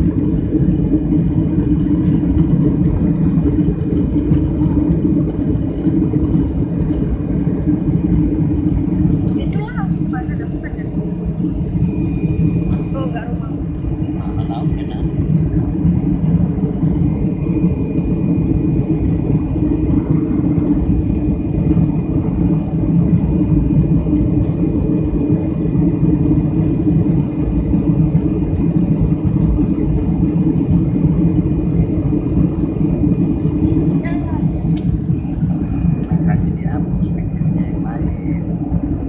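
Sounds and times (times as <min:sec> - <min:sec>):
aircraft cabin roar: 0:00.0 - 0:39.0
faint high whine: 0:00.1 - 0:39.0.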